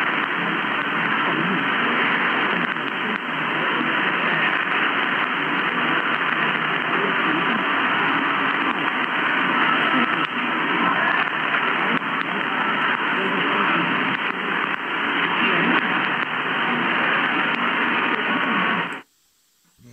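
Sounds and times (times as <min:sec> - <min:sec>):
faint voice on radio: 0:00.0 - 0:19.1
radio static and hiss: 0:00.0 - 0:19.9.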